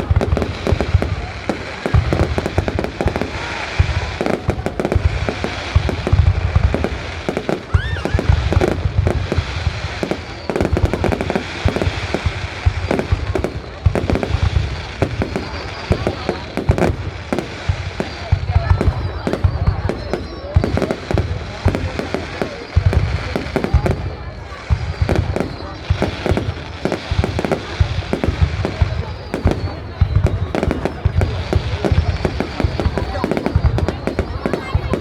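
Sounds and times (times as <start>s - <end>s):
fireworks booming: 0.0s - 35.0s
fireworks cracking and crackling: 0.0s - 35.0s.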